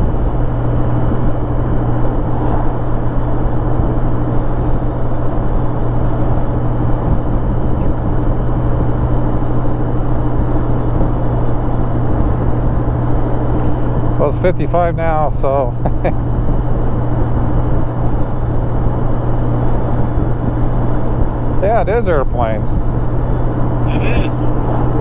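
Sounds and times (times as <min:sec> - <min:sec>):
wind noise: 0:00.0 - 0:14.3, 0:15.7 - 0:25.0
motorcycle engine drone: 0:00.0 - 0:25.0
road noise: 0:00.0 - 0:25.0.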